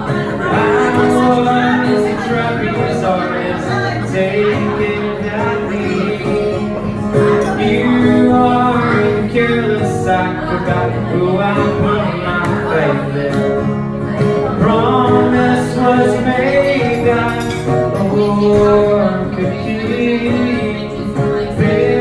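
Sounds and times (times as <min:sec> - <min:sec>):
acoustic guitar strumming: 0:00.0 - 0:22.0
person singing: 0:00.0 - 0:22.0.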